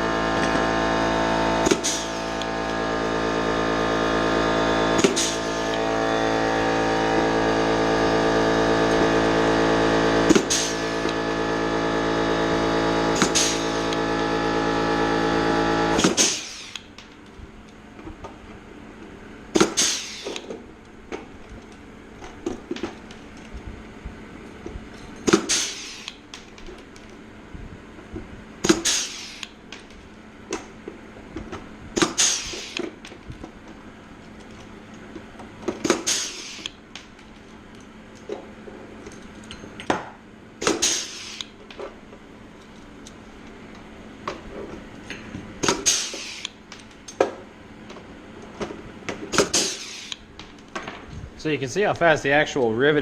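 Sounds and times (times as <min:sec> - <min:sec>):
air compressor motor hum: 0:00.0 - 0:52.3.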